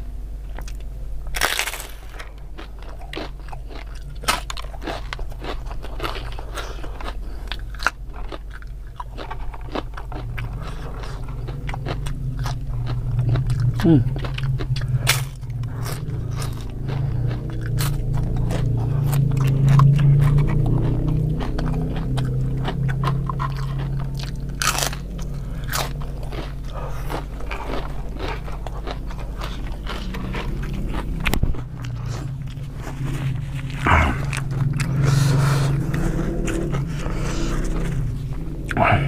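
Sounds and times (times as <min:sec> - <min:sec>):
steady low hum: 0:00.0 - 0:39.0
crisp crunching and chewing: 0:00.5 - 0:38.8.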